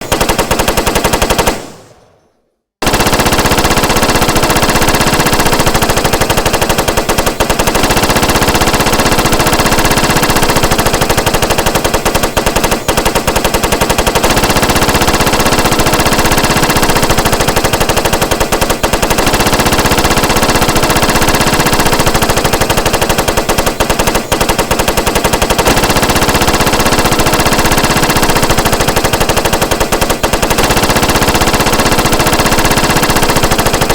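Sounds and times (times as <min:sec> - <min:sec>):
machine gun automatic fire: 0:00.0 - 0:33.9.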